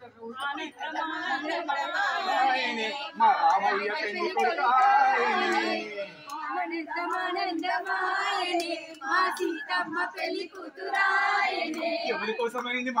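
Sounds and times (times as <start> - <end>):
voices singing devotional song: 0.0 - 13.0.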